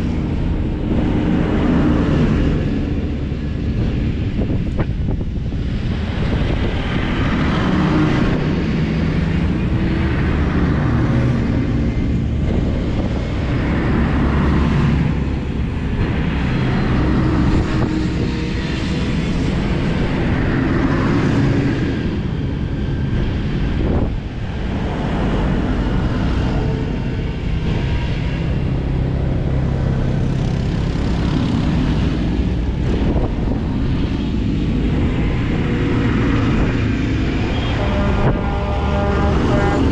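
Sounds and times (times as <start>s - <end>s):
tractor diesel engines passing: 0.0s - 39.9s.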